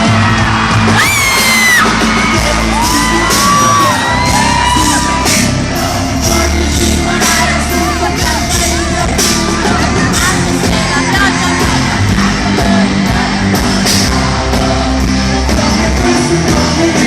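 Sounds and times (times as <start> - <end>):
crowd shouting and whooping: 0.0 - 15.5
pop-rock band playing live: 0.0 - 17.0
person singing: 1.0 - 17.0.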